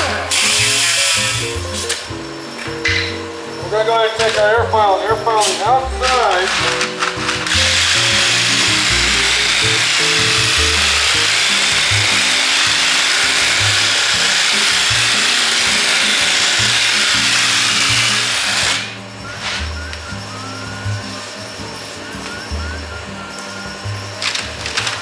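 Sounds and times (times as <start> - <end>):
air file sanding: 0.0 - 2.0, 6.2 - 25.0
background music: 0.0 - 25.0.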